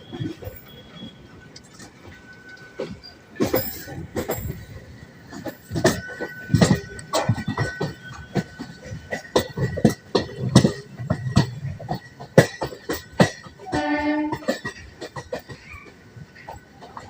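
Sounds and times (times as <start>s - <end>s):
train wheels clattering on track: 0.0s - 17.0s.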